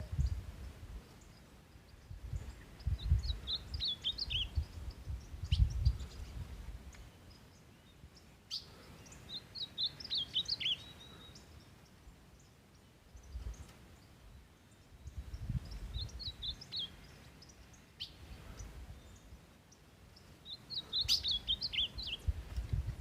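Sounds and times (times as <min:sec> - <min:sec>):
songbird twittering chirps: 0:00.0 - 0:23.0.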